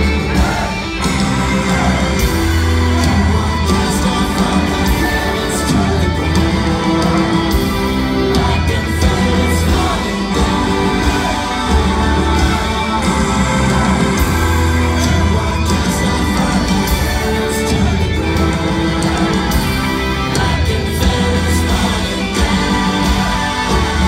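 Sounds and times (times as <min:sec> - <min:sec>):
bass guitar: 0:00.0 - 0:24.0
electric guitar: 0:00.0 - 0:24.0
live rock band playing: 0:00.0 - 0:24.0
person singing: 0:00.0 - 0:24.0.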